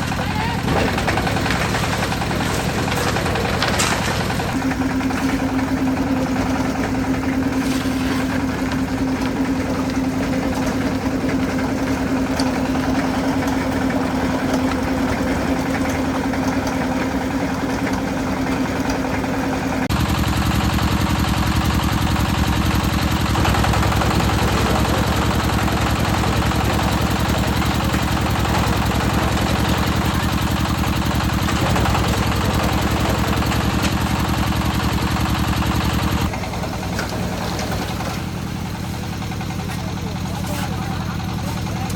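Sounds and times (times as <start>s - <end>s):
concrete mixer engine running: 0.0s - 41.9s.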